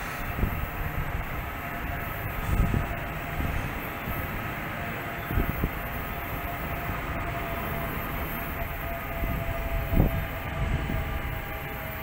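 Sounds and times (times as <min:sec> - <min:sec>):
electric train rumbling past: 0:00.0 - 0:12.0
faint held electric tones: 0:00.0 - 0:12.0.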